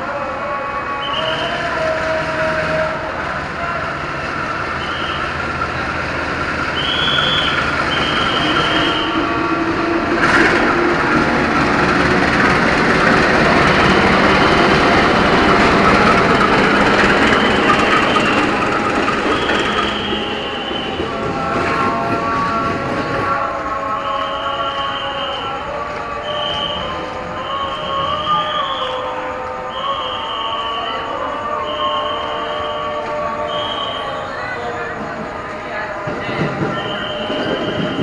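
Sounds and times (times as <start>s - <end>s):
locomotive engine and wheel noise: 0.0s - 38.0s
wheels squealing: 1.0s - 38.0s.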